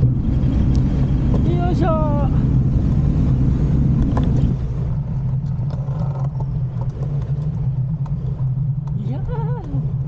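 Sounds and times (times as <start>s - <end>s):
bike rolling on pavement: 0.0s - 10.0s
low engine hum: 0.0s - 10.0s
wind rumbling on microphone: 0.0s - 10.0s.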